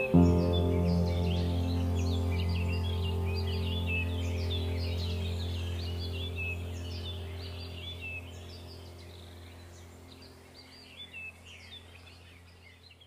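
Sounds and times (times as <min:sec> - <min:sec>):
low held music tone: 0:00.0 - 0:13.0
small birds chirping: 0:00.0 - 0:13.0.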